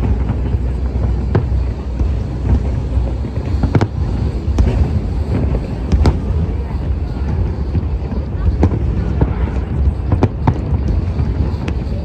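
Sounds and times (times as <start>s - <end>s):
firework bangs: 0.0s - 12.0s
low rumble of firework bursts: 0.0s - 12.0s.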